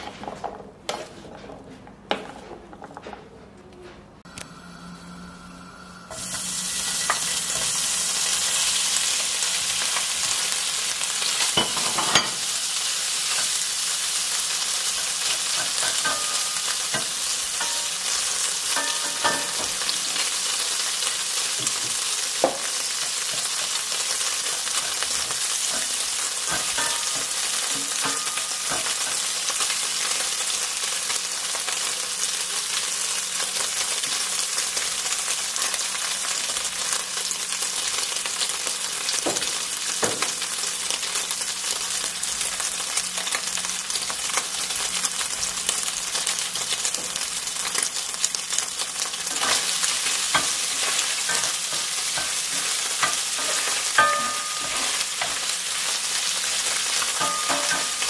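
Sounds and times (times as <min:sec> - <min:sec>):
fat sizzling in a pan: 0:04.5 - 0:58.0.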